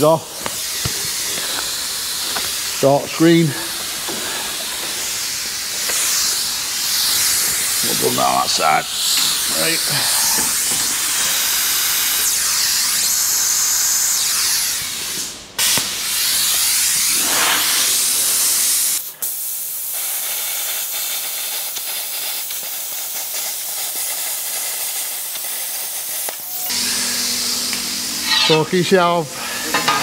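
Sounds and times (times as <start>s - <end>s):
plasma cutter arc hissing: 0.0s - 28.8s.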